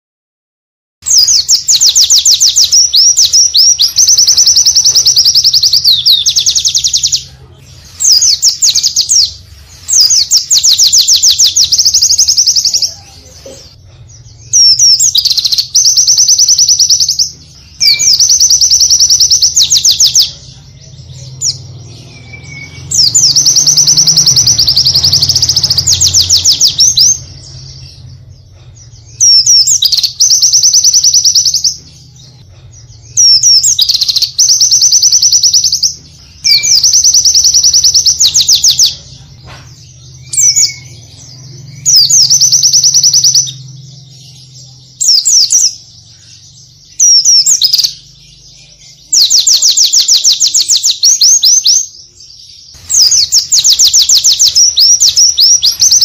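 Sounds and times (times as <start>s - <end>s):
bird song rapid high notes: 1.0s - 13.1s, 13.7s - 56.0s.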